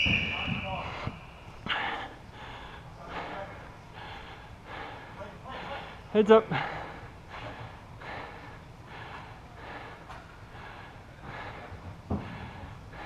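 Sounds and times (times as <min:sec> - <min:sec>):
person breathing close: 0:00.9 - 0:13.0.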